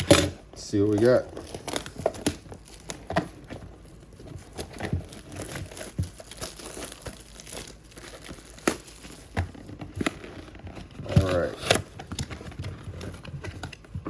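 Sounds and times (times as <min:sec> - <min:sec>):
packaging crinkling and tearing: 0:00.0 - 0:14.0.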